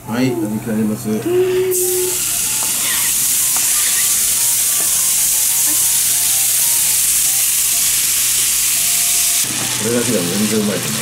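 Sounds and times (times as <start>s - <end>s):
beef sizzling in frying pan: 1.7s - 11.0s.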